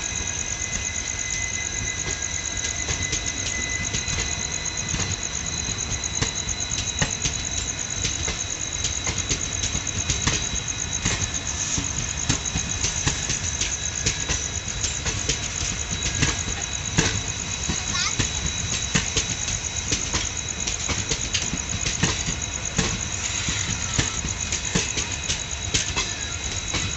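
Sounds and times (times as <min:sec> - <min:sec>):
train rumbling on track: 0:00.0 - 0:26.9
wheels clicking over rail joints: 0:02.0 - 0:26.9.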